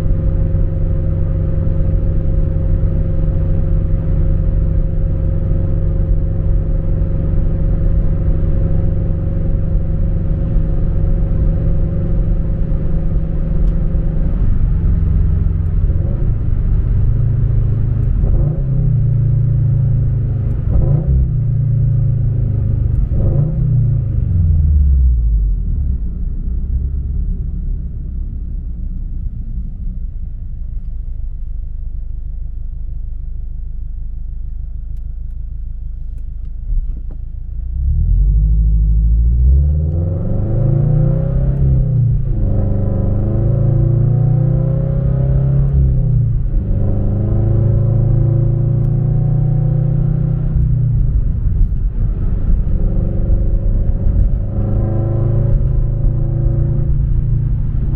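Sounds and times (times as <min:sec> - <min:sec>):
car engine rumble in cabin: 0:00.0 - 0:57.9.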